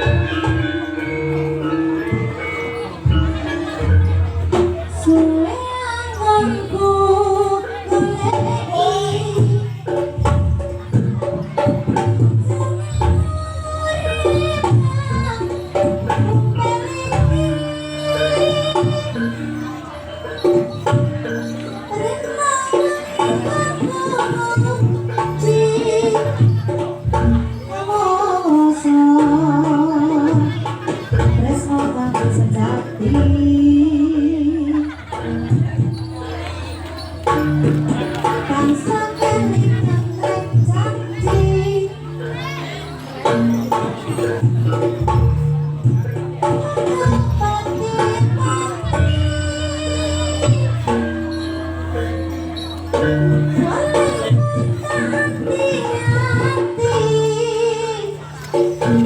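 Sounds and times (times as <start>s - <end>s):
person singing wavering melody: 0.0s - 59.0s
struck percussion: 0.0s - 59.0s.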